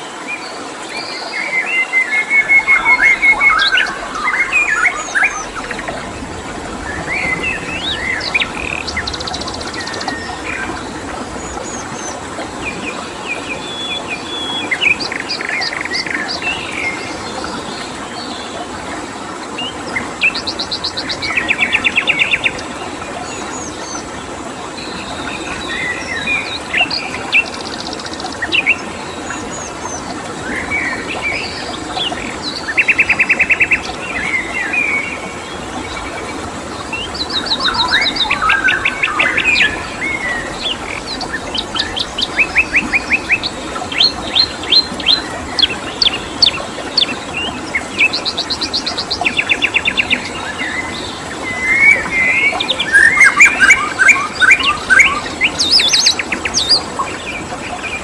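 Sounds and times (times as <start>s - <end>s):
songbirds singing: 0.0s - 18.4s, 19.6s - 58.0s.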